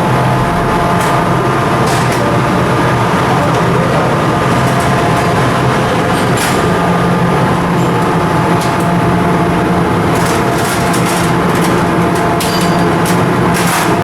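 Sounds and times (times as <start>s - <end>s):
ship diesel engine drone: 0.0s - 14.0s.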